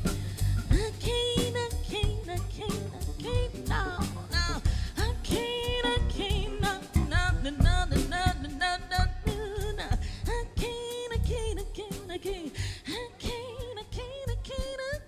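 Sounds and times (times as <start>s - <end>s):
live soul band playing: 0.0s - 15.0s.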